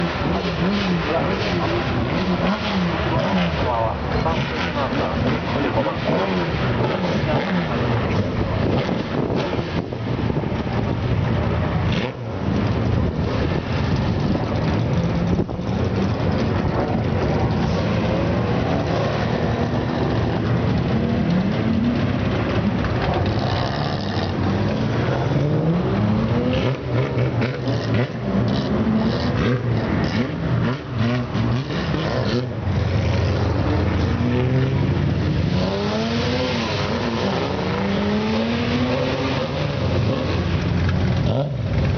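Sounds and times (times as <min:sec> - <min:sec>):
cars accelerating and revving: 0:00.0 - 0:41.9.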